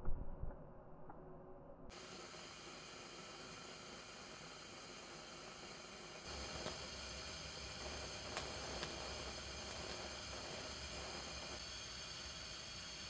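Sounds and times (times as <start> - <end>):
faint crackles of flames: 1.9 - 13.0
gas stove burner hissing: 1.9 - 13.0.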